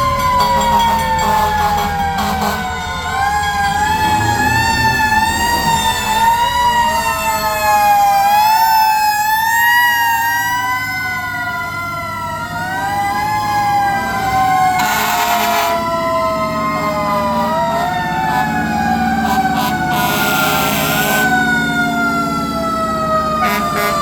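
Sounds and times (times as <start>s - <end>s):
fire truck sirens wailing: 0.0s - 24.0s
truck engines rumbling: 0.0s - 24.0s.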